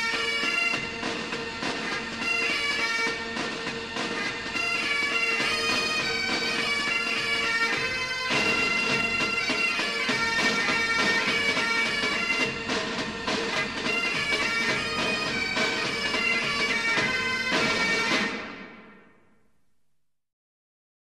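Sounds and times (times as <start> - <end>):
bagpipe music: 0.0 - 18.9.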